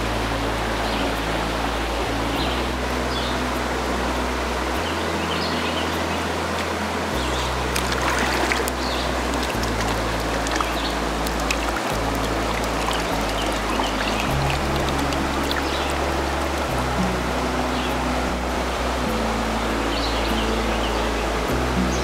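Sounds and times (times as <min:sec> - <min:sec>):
background music with low notes: 0:00.0 - 0:22.0
mountain stream running: 0:00.0 - 0:22.0.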